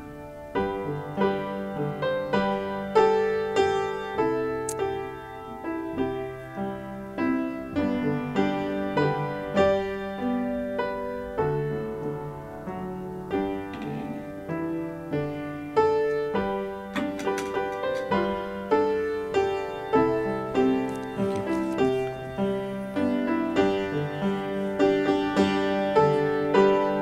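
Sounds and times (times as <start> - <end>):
slow grand piano piece: 0.0 - 27.0.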